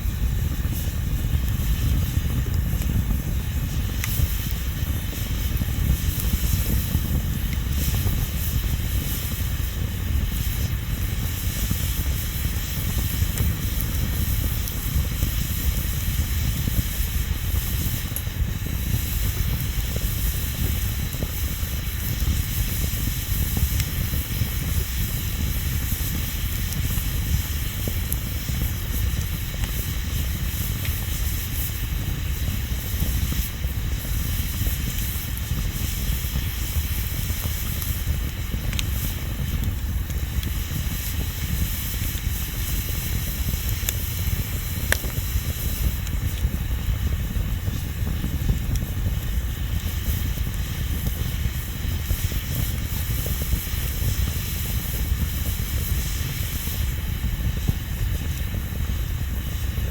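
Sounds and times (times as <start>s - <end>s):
bonfire burning: 0.0s - 59.9s
faint fire crackles: 0.0s - 59.9s.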